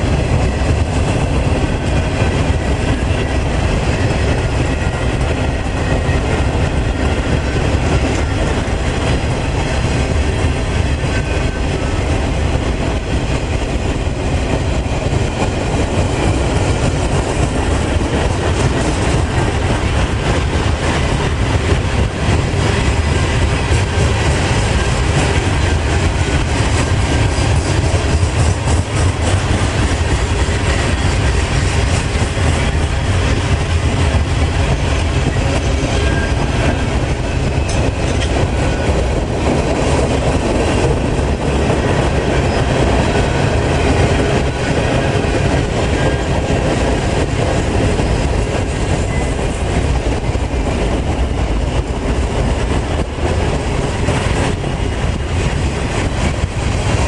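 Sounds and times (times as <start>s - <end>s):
freight train wheels rumbling and clattering: 0.0s - 57.0s.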